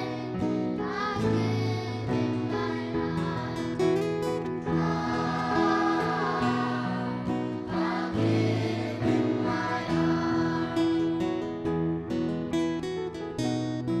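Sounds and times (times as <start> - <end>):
choir singing a carol: 0.0 - 11.5
acoustic guitar strumming: 0.0 - 14.0.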